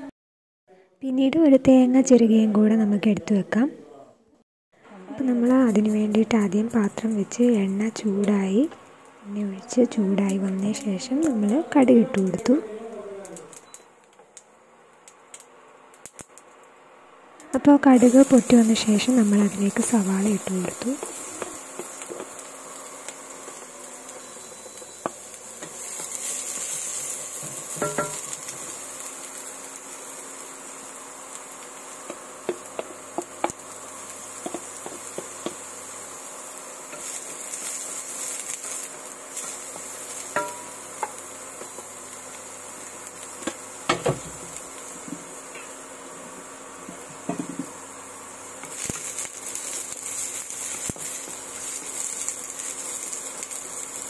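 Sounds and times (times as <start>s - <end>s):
onions sizzling in oil: 5.0s - 54.0s.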